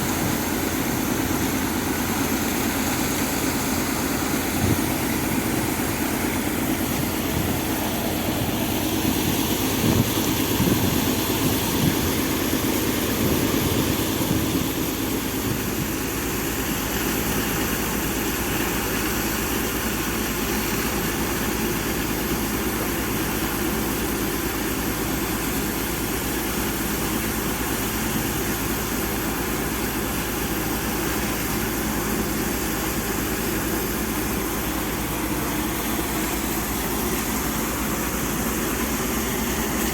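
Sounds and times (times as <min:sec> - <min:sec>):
pump engine running: 0:00.0 - 0:39.9.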